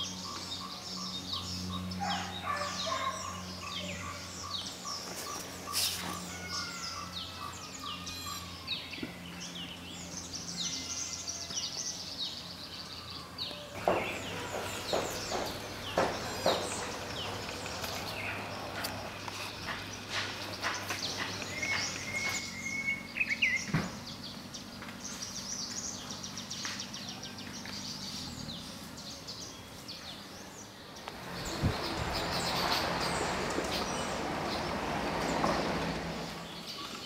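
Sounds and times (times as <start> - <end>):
birds chirping and whistling: 0.0 - 35.6.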